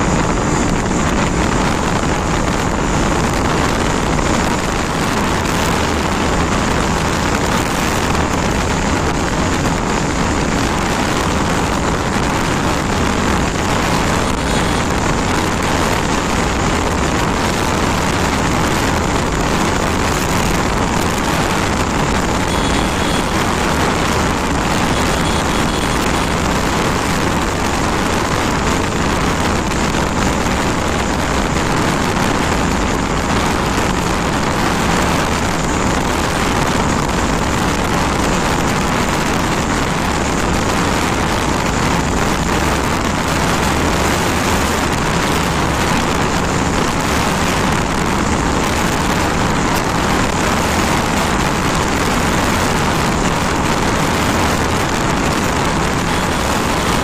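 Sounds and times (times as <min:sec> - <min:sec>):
motorcycle engine high revs: 0:00.0 - 0:57.0
wind rush on microphone: 0:00.0 - 0:57.0.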